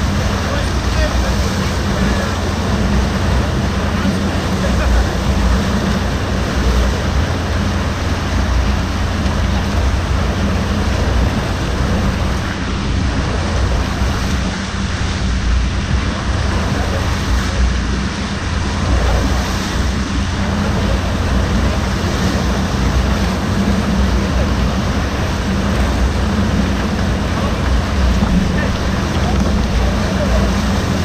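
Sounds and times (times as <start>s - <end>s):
churning whitewater rushing: 0.0s - 31.0s.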